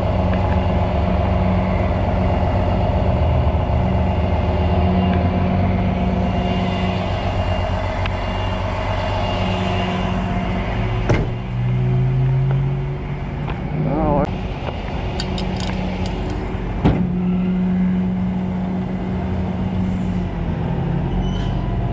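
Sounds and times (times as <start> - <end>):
truck engine running: 0.0 - 21.9.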